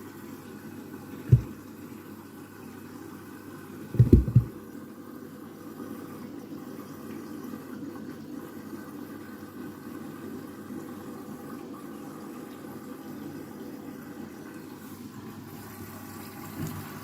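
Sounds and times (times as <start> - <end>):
water rushing into washing machine: 0.8 - 17.0.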